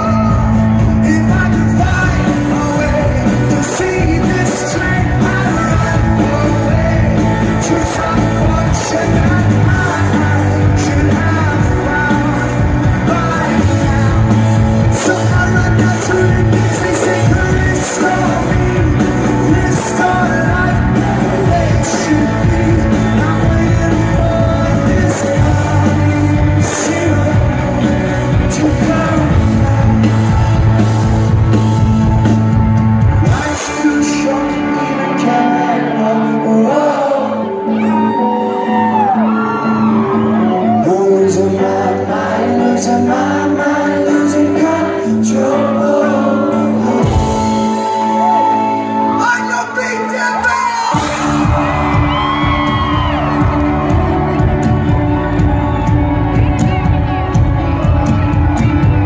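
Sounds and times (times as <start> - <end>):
bass line: 0.0 - 59.0
lead vocal singing: 0.0 - 59.0
rock band playing live: 0.0 - 59.0.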